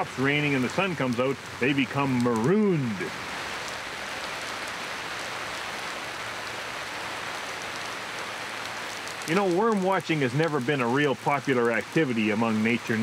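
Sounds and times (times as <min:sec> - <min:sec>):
rain on paving stones: 0:00.0 - 0:13.0.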